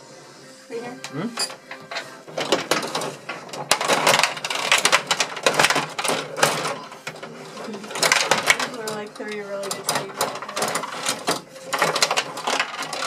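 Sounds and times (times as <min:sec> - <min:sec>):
control rods rattling: 0:01.4 - 0:13.0
plastic players and puck clacking: 0:01.5 - 0:13.0.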